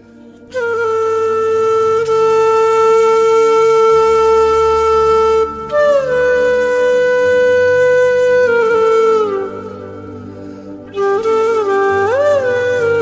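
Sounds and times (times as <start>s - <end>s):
wind instrument long notes: 0.0s - 13.0s.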